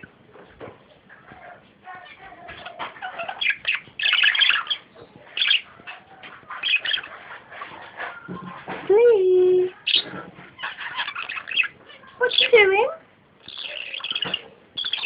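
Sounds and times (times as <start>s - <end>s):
budgerigar chattering and warbling: 1.2s - 8.8s, 9.7s - 12.6s, 13.4s - 15.0s.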